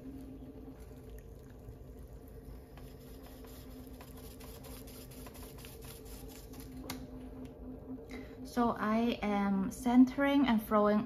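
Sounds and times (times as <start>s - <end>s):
pottery wheel humming: 0.0s - 11.0s.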